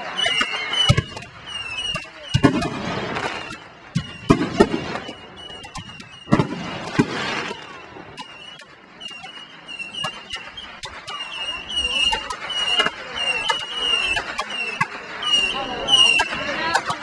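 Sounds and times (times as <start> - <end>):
firework crackling: 0.0 - 17.0
firework shells bursting: 0.1 - 17.0.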